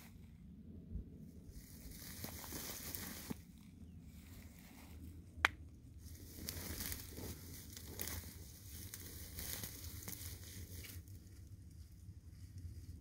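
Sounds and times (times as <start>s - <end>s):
animals rustling through dry leaves: 1.4s - 5.2s, 6.0s - 13.0s.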